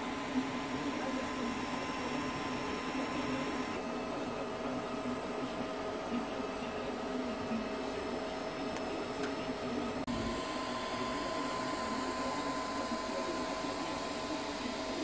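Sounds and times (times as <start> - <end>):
cooling fans hissing: 0.0 - 15.0.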